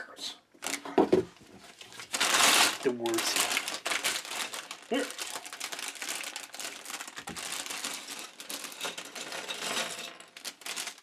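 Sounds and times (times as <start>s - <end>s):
plastic bags crinkling: 0.6s - 11.0s
plastic parts rattling: 1.8s - 11.0s.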